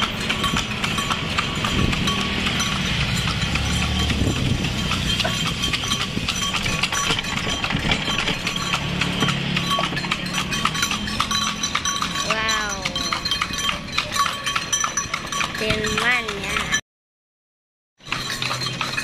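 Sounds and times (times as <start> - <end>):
horse hooves clip-clopping: 0.0 - 16.8, 18.0 - 19.0.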